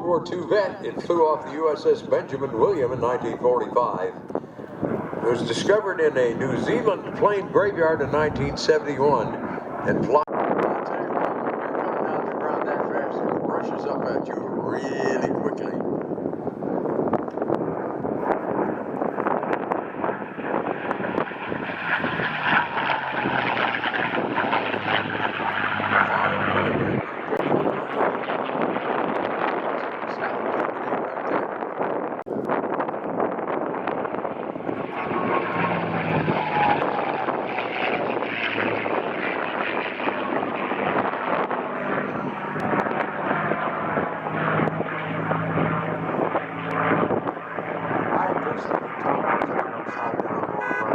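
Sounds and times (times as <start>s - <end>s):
propeller plane engine droning: 0.0s - 50.9s
wind on microphone: 0.0s - 50.9s.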